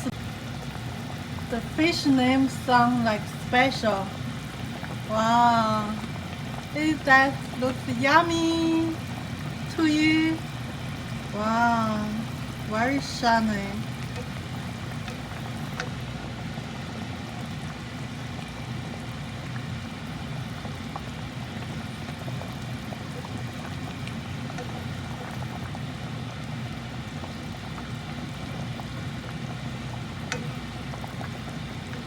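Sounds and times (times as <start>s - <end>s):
fish sizzling in a pan: 0.0s - 32.0s
low hum: 0.0s - 32.0s.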